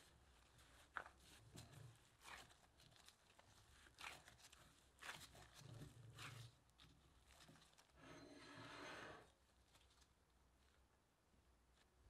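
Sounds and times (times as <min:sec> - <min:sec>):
hands kneading dough in a bowl: 0:00.0 - 0:12.0.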